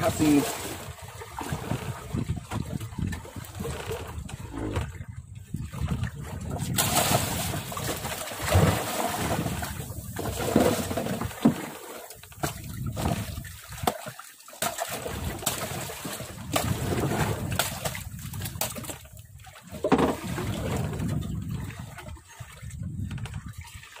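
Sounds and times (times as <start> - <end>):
water splashing against boat hull: 0.0 - 24.0.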